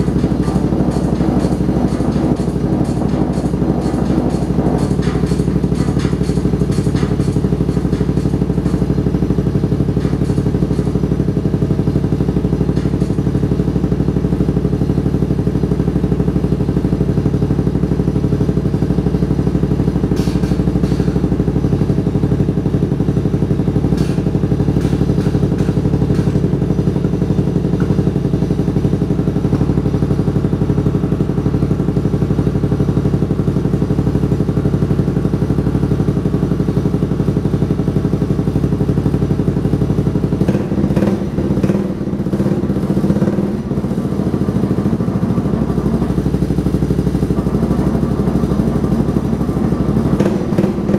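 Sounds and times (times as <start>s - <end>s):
scooter engine idling: 0.0s - 50.9s.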